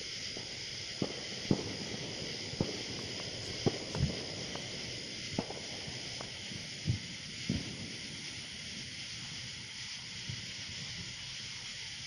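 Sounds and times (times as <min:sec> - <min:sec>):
firecrackers popping: 0:00.0 - 0:12.0
steady hiss: 0:00.0 - 0:12.0.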